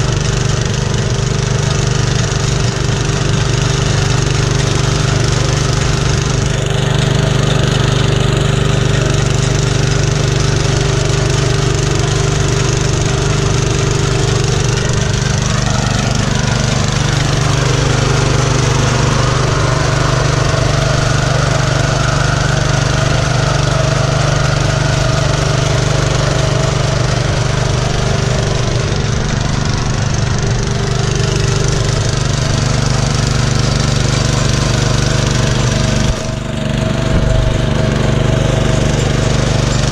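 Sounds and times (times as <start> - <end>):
rotary tines churning soil: 0.0 - 39.9
small tiller engine running: 0.0 - 39.9.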